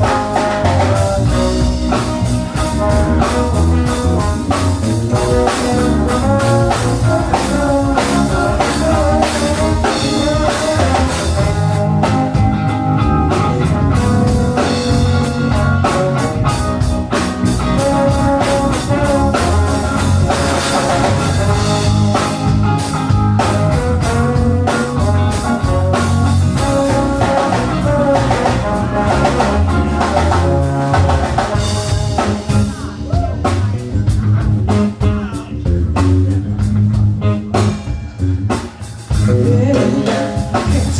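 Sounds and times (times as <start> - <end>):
blues rock guitar and drums: 0.0 - 40.9.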